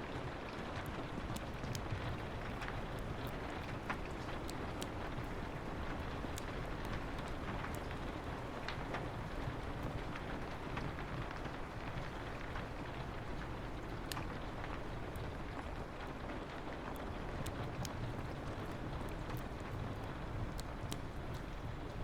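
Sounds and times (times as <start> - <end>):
rain on a window: 0.0 - 22.0
wood fire crackling: 0.0 - 22.0.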